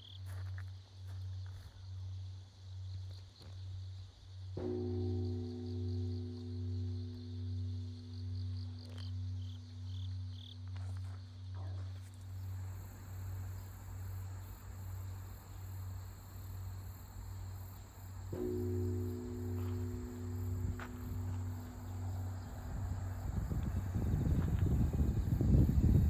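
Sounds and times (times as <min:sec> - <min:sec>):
crickets chirping: 0:00.0 - 0:26.0
large temple bell humming: 0:04.6 - 0:26.0.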